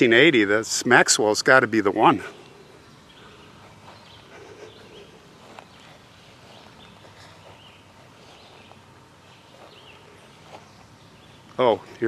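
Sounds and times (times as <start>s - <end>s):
low outdoor hiss: 0.0s - 12.0s
distant bird chirps: 1.2s - 12.0s.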